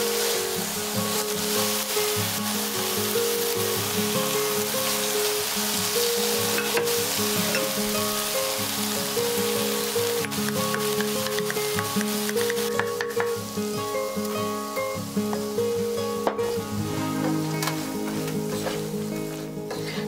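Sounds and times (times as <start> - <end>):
food sizzling in a frying pan: 0.0 - 20.0
light background music: 0.0 - 20.0.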